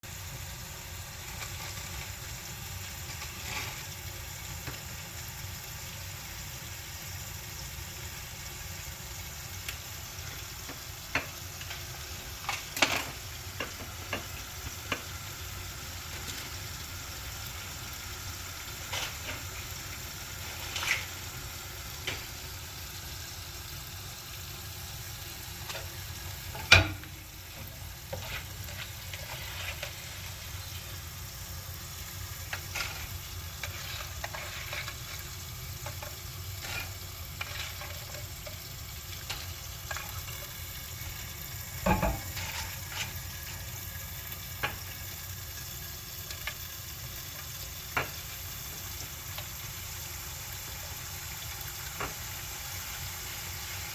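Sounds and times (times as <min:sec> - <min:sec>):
food sizzling in a frying pan: 0:00.0 - 0:53.9.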